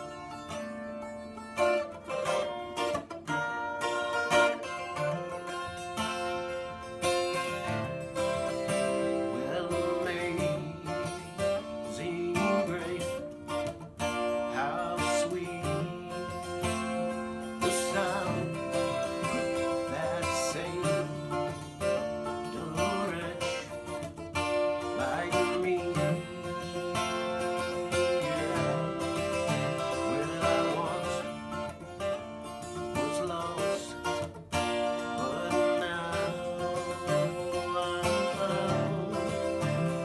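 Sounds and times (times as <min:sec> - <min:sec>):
guitar playing: 0:00.0 - 0:40.0.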